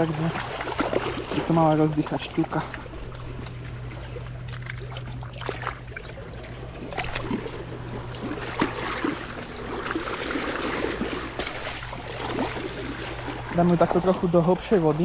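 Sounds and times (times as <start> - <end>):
low hum: 0.0 - 15.0
water splashing and lapping: 0.0 - 15.0.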